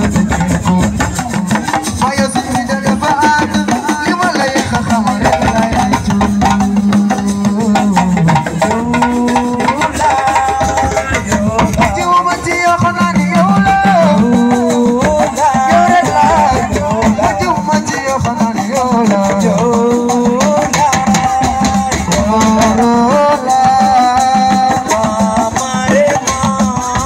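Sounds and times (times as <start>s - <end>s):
busy drumming: 0.0s - 27.0s.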